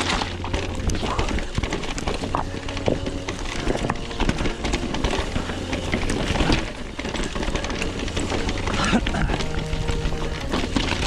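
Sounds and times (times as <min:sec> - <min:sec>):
mountain bike clattering over rocks: 0:00.0 - 0:11.0.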